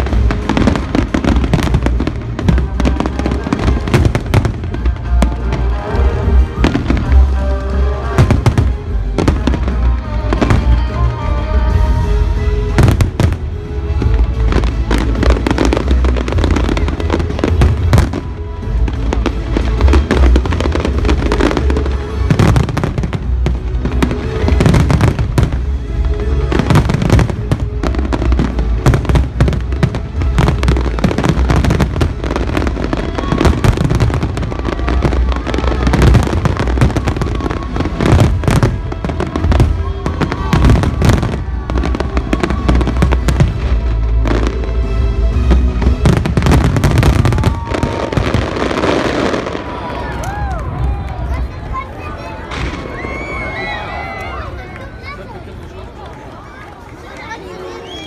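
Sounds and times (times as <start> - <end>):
music playing: 0.0 - 57.8
fireworks bangs and crackles: 0.0 - 58.0.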